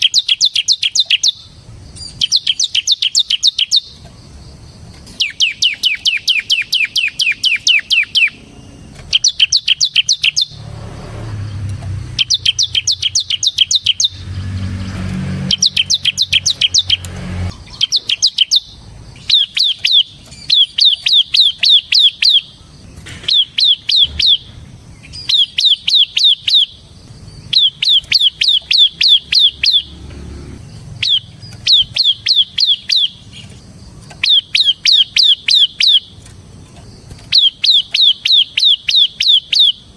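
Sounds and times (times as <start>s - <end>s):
bird singing drilling song: 0.0s - 39.9s.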